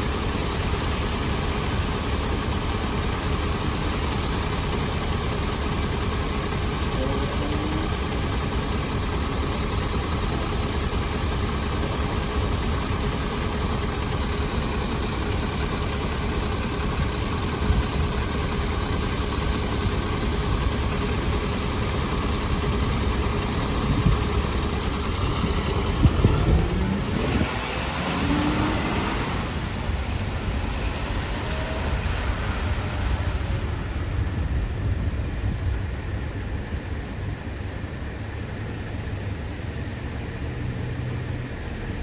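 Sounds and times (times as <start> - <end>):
bus diesel engine idling: 0.0 - 42.0.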